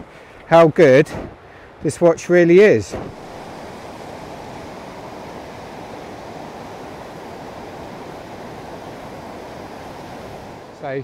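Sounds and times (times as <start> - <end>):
stream rushing over boulders: 2.0 - 11.0.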